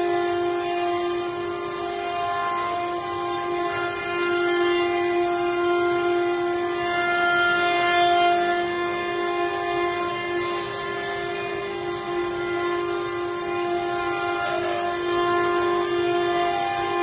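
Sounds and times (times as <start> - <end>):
router spindles whining: 0.0 - 17.0.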